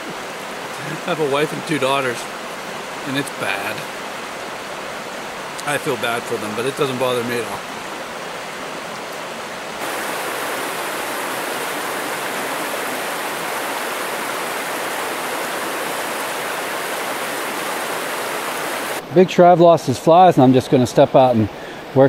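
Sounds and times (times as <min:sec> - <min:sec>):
stream water rushing: 0:00.0 - 0:19.5.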